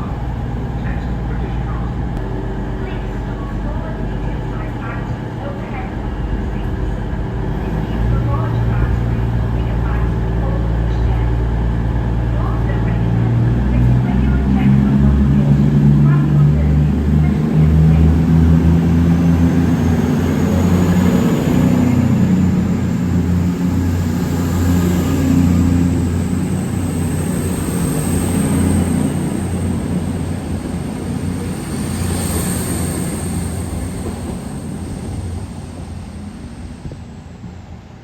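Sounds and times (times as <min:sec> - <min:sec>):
train engine drone and whine: 0:00.0 - 0:38.0.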